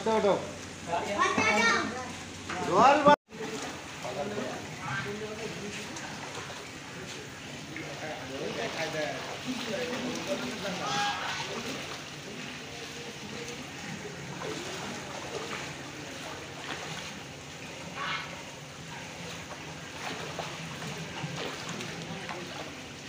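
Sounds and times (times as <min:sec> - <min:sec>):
short water splashes: 0:00.0 - 0:23.0
water sloshing and dripping: 0:00.0 - 0:23.0.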